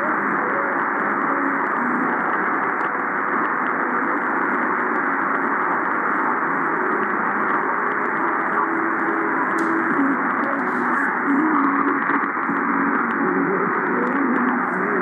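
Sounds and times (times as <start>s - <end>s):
faint distant radio broadcast: 0.0s - 15.0s
radio static hiss: 0.0s - 15.0s.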